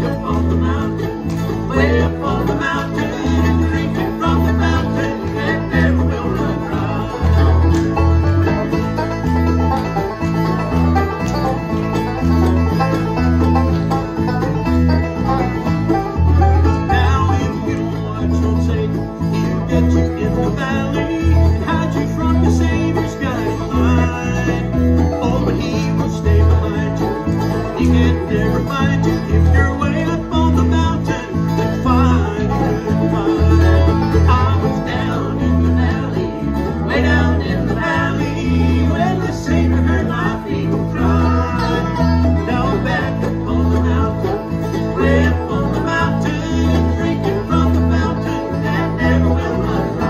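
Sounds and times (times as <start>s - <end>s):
banjo rolls: 0.0s - 50.0s
bluegrass band playing: 0.0s - 50.0s
plodding bass line: 0.0s - 50.0s
strummed acoustic guitars: 0.0s - 50.0s.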